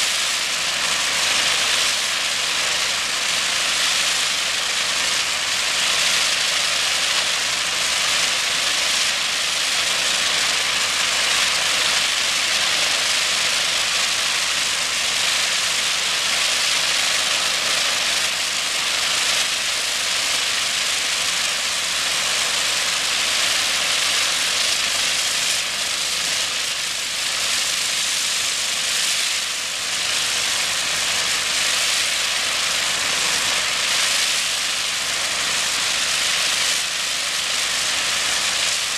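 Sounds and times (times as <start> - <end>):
high-pressure water jet hissing: 0.0 - 38.9.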